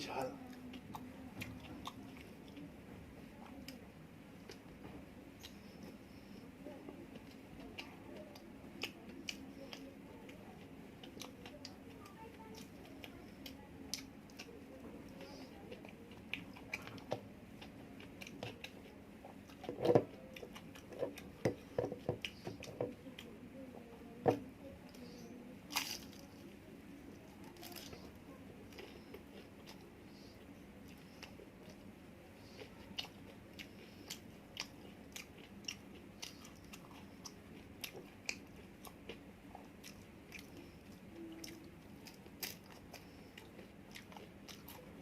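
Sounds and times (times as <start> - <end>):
chewing: 0.4 - 2.7, 4.4 - 45.0.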